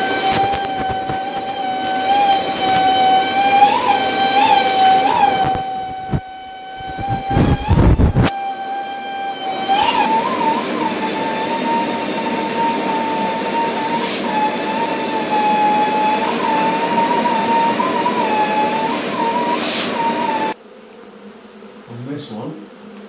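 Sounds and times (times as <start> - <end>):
vacuum cleaner motor whine: 0.0 - 20.6.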